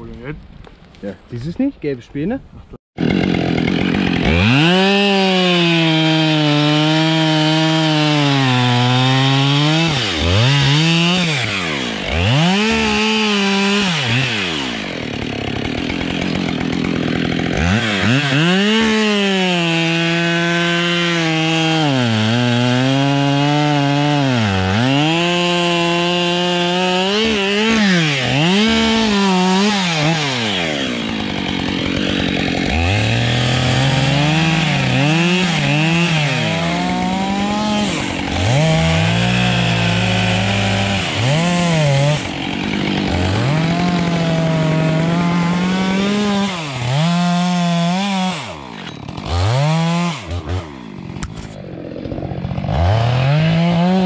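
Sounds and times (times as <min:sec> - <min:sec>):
chainsaw cutting wood: 0:03.0 - 0:54.0.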